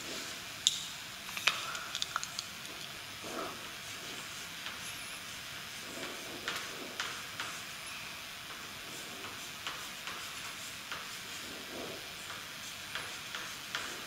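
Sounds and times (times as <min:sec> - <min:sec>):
steady hiss: 0:00.0 - 0:14.0
chalk tapping and scratching: 0:02.0 - 0:07.8, 0:08.5 - 0:14.0.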